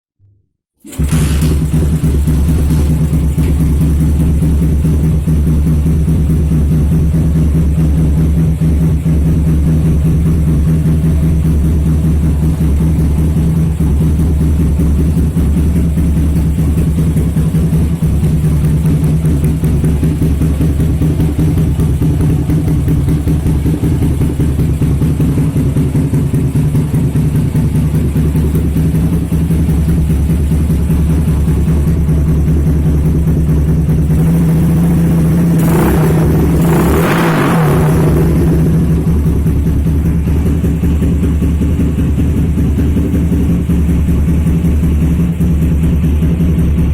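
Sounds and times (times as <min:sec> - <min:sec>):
motorcycle engine idling: 0:00.8 - 0:46.9
motorcycle engine revving: 0:00.8 - 0:46.9.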